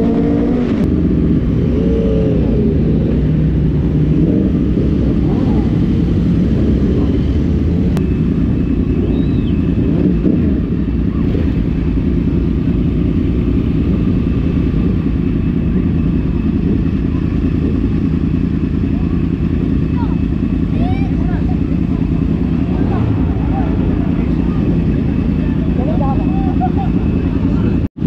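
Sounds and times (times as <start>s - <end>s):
motorcycle engine at low revs: 0.0s - 28.0s.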